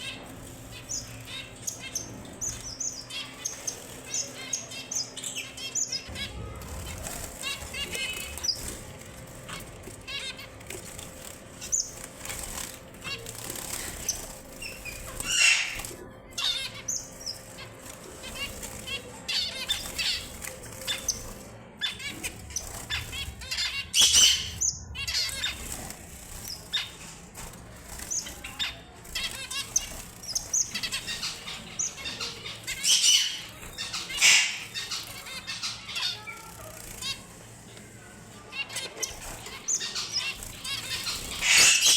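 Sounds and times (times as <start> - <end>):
finches chirping: 0.0 - 41.9
fluttering wingbeats: 0.0 - 41.9.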